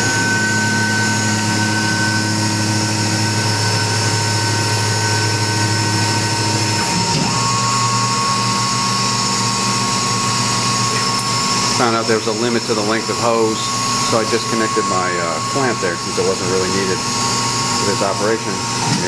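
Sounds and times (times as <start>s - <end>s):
mill motor whine and hum: 0.0s - 19.0s.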